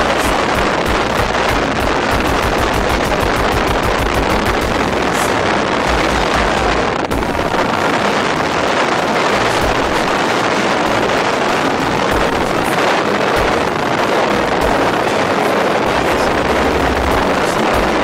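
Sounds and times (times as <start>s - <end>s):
motorboat rushing across water: 0.0s - 18.0s
wind buffeting microphone: 0.0s - 18.0s.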